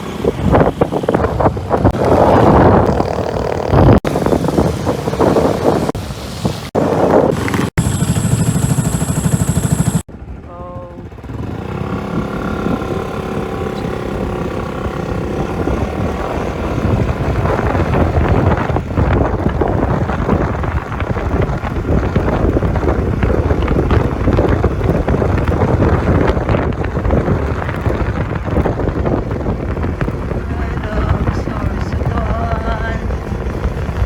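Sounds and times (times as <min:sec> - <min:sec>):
scooter engine hum: 0:00.0 - 0:34.0
wind noise on microphone: 0:00.0 - 0:34.0.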